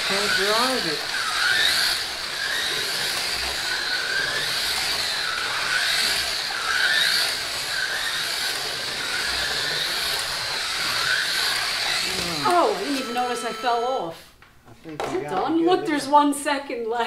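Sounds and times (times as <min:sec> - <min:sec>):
slot car motors whining: 0:00.0 - 0:14.2.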